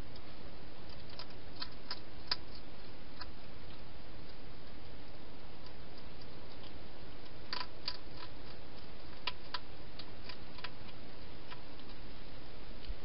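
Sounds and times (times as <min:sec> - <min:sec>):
steady background hiss: 0:00.0 - 0:13.0
hedgehog chewing clicks: 0:00.1 - 0:12.0.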